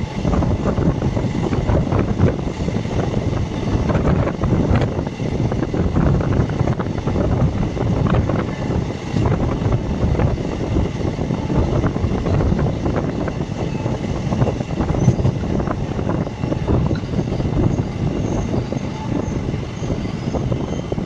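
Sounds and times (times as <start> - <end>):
train wheels rumbling on rails: 0.0 - 21.0
wind rushing past microphone: 0.0 - 21.0.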